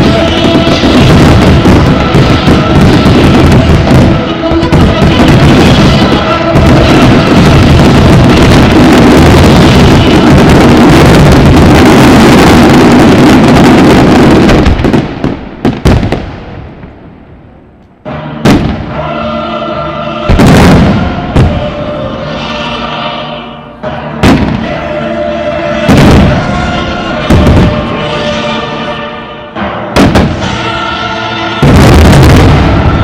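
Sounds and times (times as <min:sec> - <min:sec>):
music: 0:00.0 - 0:12.0, 0:18.0 - 0:33.0
fireworks bangs: 0:00.0 - 0:33.0.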